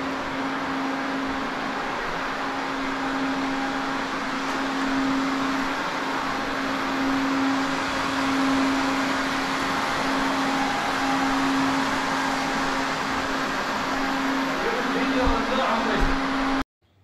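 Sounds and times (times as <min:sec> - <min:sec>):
low machine hum: 0:00.0 - 0:16.6
rushing air: 0:00.0 - 0:16.6.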